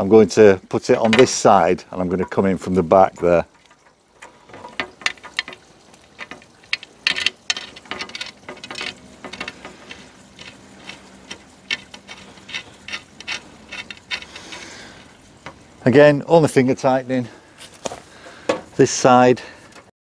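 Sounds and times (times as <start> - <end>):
bolts clicking and scraping: 0.8 - 19.9.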